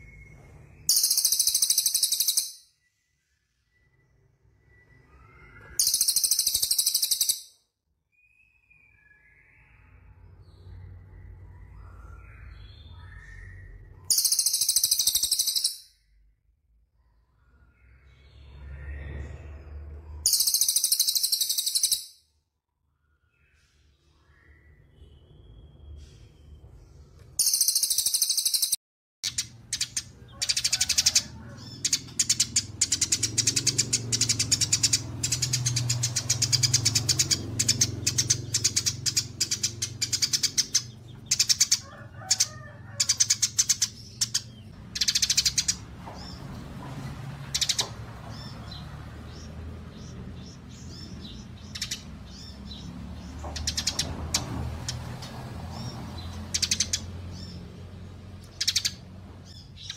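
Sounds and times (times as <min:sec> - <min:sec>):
songbirds chirping and singing: 0:00.0 - 0:07.5, 0:08.1 - 0:16.2, 0:17.0 - 0:22.1, 0:22.8 - 0:59.9.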